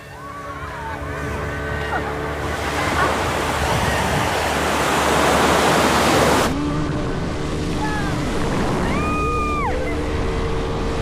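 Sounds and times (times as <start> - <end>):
motorboat engine drone: 0.0 - 11.0
wind and water spray rushing: 2.1 - 11.0.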